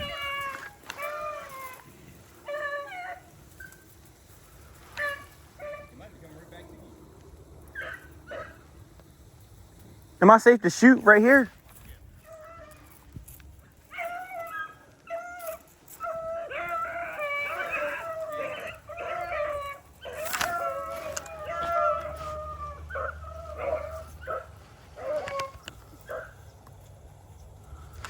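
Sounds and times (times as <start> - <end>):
hounds baying and howling: 0.0 - 10.0, 11.1 - 28.0.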